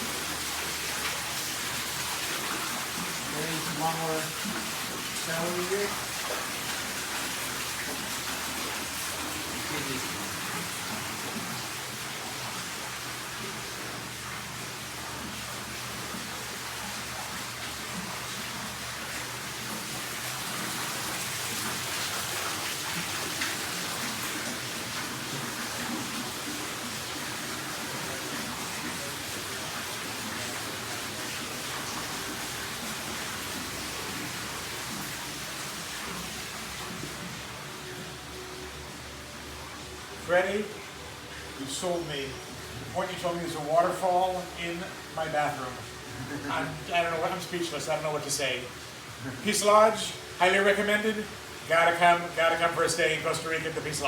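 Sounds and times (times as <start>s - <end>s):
falling water splashing: 0.0s - 54.0s.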